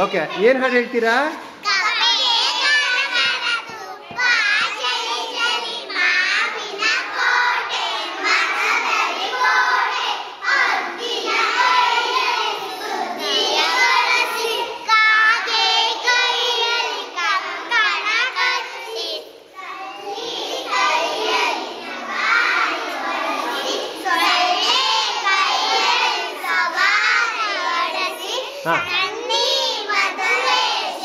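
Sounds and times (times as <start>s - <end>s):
children singing together: 1.5s - 31.0s.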